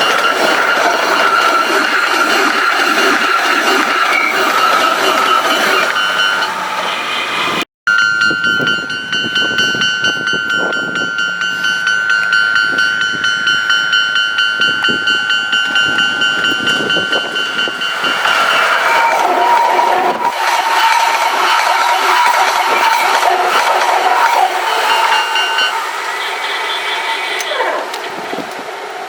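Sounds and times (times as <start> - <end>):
level crossing alarm ringing: 0.0 - 27.5
train clattering past: 0.0 - 29.0.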